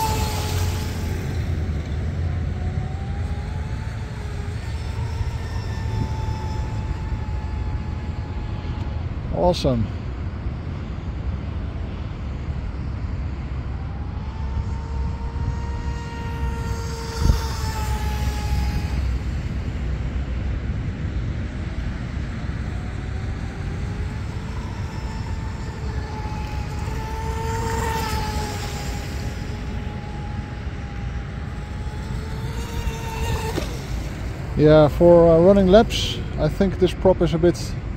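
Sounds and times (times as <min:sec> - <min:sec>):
boat motor and propeller whining: 0:00.0 - 0:37.9.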